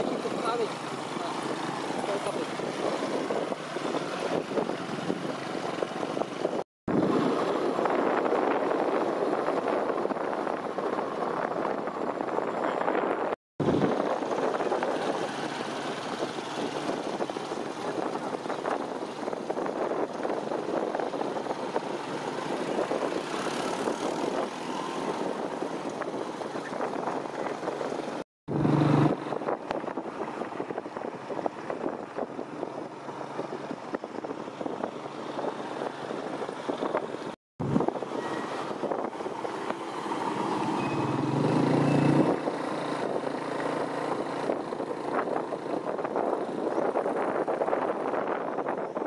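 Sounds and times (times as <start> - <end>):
motorbike engines running: 0.0 - 9.6, 13.6 - 48.4
road rumble: 0.0 - 49.0.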